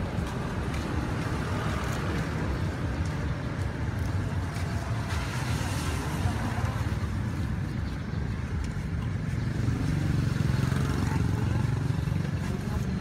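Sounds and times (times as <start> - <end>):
rumble of passing traffic: 0.0 - 13.0.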